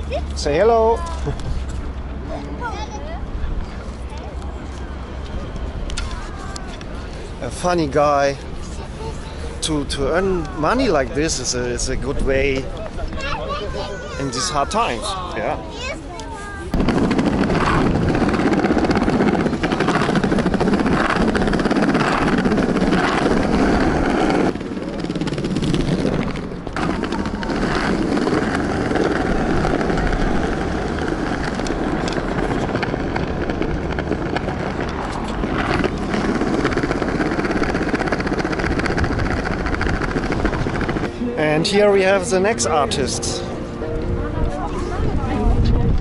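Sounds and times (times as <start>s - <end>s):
skateboard wheels rolling on paving: 0.0s - 46.0s.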